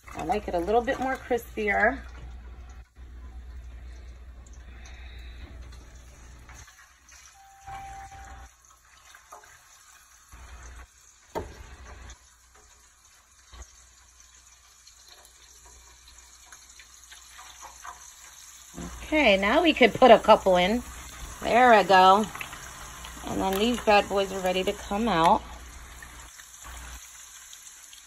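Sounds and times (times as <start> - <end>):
ham sizzling in hot oil: 0.0 - 28.0.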